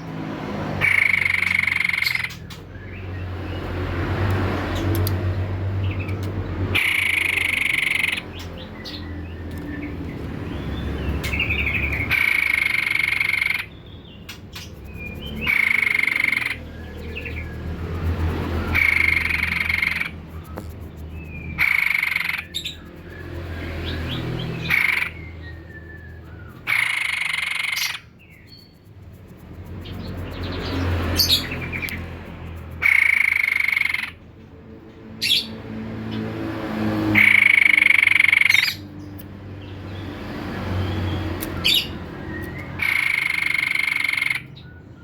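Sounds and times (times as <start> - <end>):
bird singing loud calls: 0.8 - 3.6, 5.9 - 34.2, 37.1 - 45.0.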